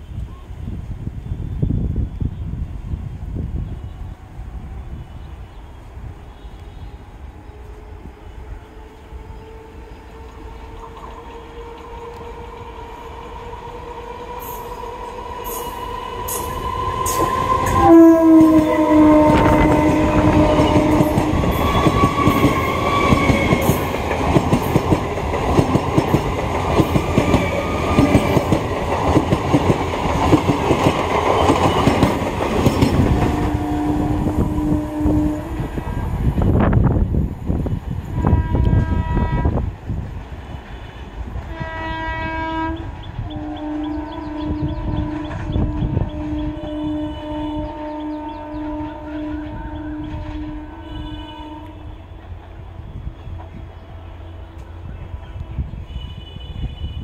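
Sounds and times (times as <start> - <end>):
train horn: 3.6 - 29.2, 30.7 - 35.8, 37.6 - 39.7, 40.6 - 57.0.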